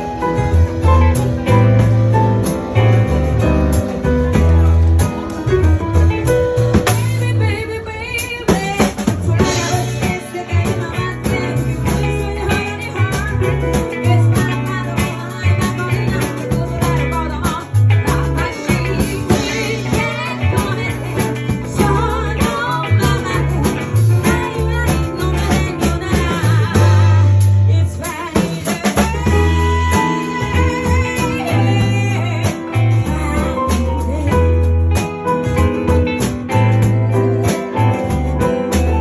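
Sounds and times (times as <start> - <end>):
held bass notes: 0.0 - 7.8, 9.2 - 39.0
drums: 0.0 - 39.0
guitar: 0.0 - 39.0.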